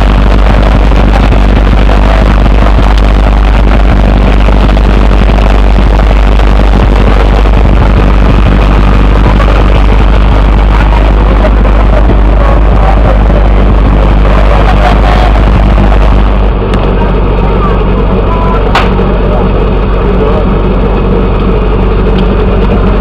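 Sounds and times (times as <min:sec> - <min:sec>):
fire pump engine running: 0:00.0 - 0:23.0.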